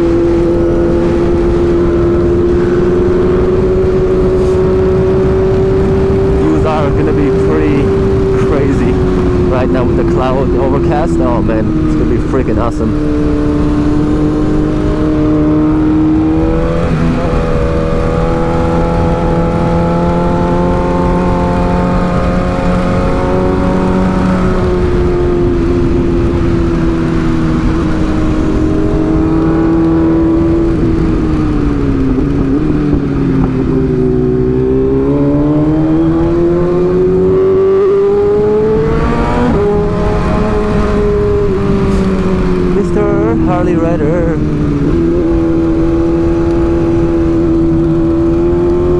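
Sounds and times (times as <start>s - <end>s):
motorcycle engine: 0.0s - 48.9s
wind rush on microphone: 0.0s - 48.9s.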